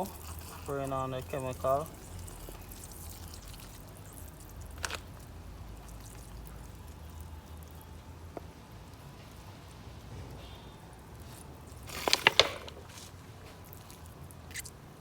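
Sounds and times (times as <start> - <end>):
liquid dripping and trickling: 0.0 - 10.1, 11.0 - 15.0
low steady hum: 0.0 - 15.0.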